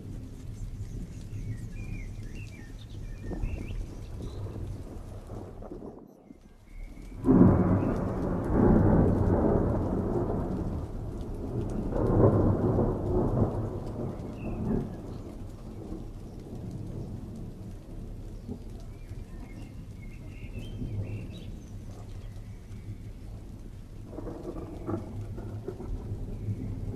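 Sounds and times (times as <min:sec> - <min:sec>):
thunder rumbling: 0:00.0 - 0:26.9.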